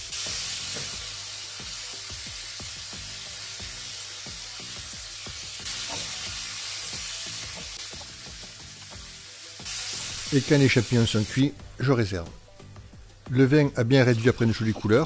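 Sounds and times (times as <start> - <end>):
mushrooms sizzling in frying pan: 0.0 - 13.3.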